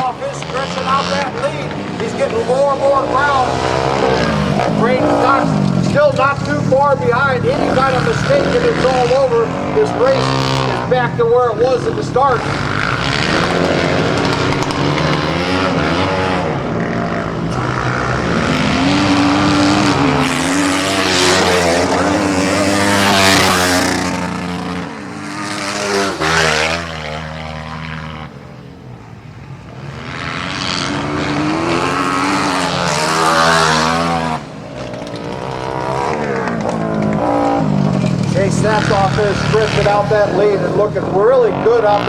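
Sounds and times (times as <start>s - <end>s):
racing motorcycles accelerating past: 0.0s - 42.0s.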